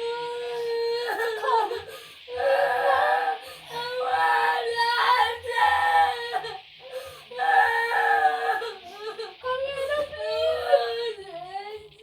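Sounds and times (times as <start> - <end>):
young child crying: 0.0 - 6.6, 7.3 - 12.0.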